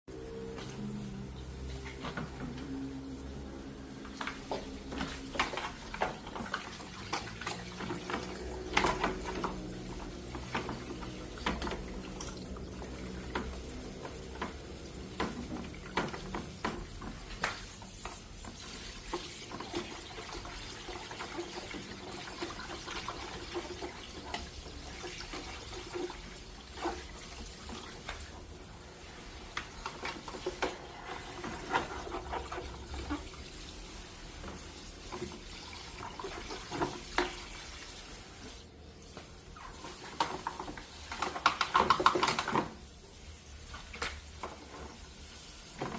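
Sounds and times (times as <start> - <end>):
water running and splashing: 0.2 - 45.9.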